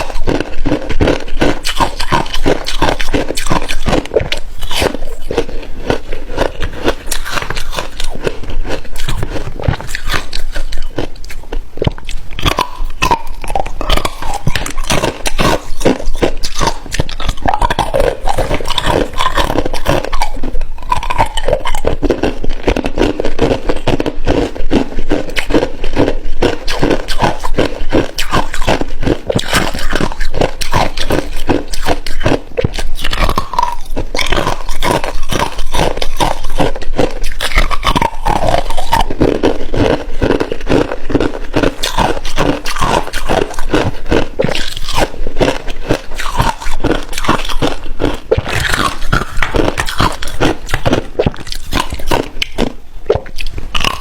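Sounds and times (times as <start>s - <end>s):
ice crunching being chewed: 0.0s - 54.0s.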